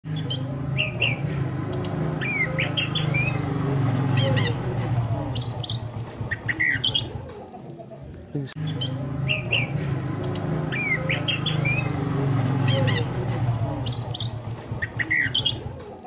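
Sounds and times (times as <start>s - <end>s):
thrush song chirps and whistles: 0.1s - 7.2s, 8.6s - 15.7s.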